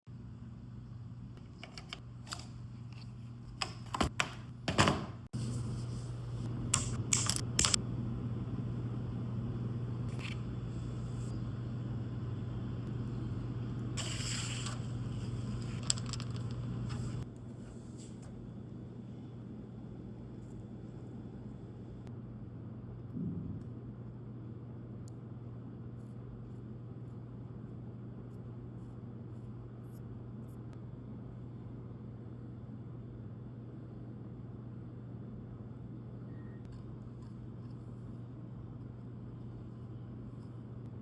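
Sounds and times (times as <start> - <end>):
low electrical hum: 0.1 - 41.0.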